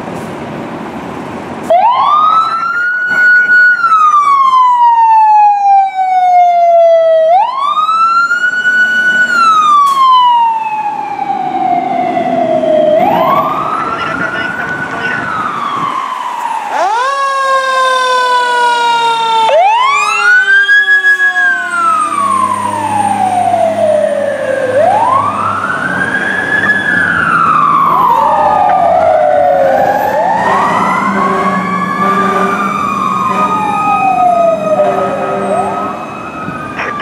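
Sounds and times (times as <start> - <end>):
sirens wailing: 1.6 - 37.0.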